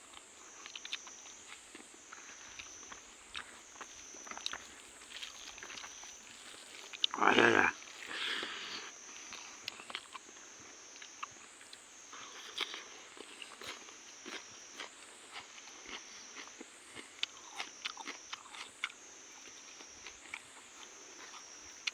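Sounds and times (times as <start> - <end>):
chewing food: 0.1 - 21.9.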